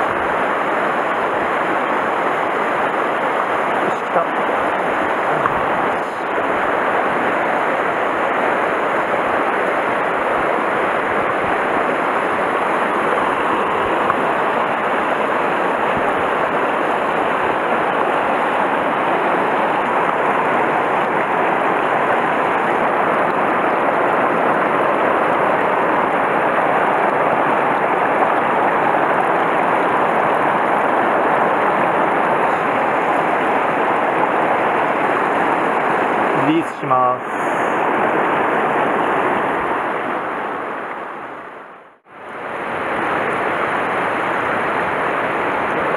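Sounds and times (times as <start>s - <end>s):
water rushing over rocks: 0.0s - 45.9s.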